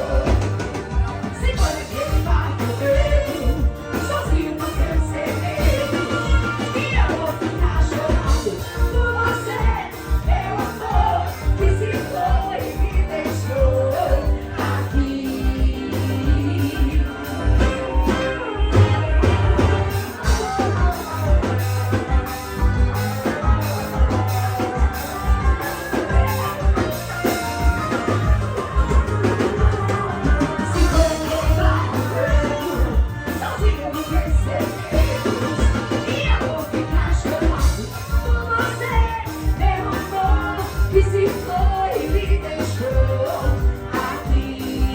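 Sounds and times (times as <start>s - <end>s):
drum and bass beat: 0.0s - 44.9s
live band music: 0.0s - 44.9s
person singing: 0.0s - 44.9s.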